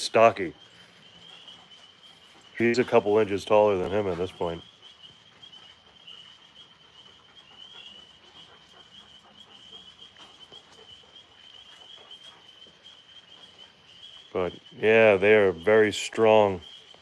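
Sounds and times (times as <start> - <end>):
insects trilling: 0.0 - 17.0
soft ticks and rustles: 0.0 - 17.0.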